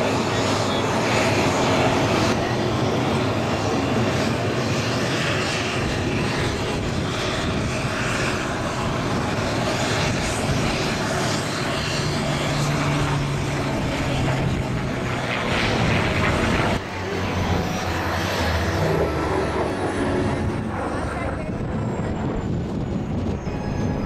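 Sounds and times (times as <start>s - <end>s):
propeller plane engine drone: 0.0s - 24.0s.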